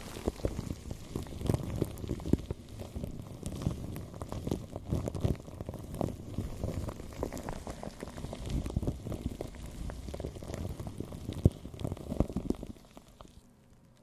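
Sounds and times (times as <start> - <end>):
dense irregular crackling: 0.0 - 14.0.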